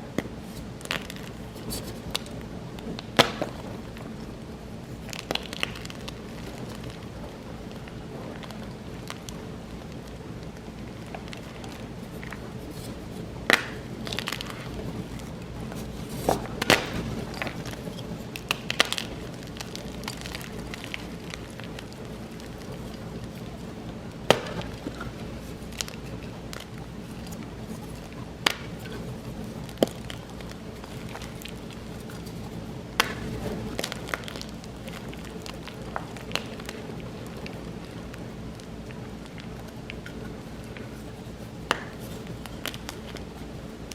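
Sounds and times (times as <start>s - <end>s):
chalk blocks cracking: 0.2s - 4.2s, 5.0s - 43.9s.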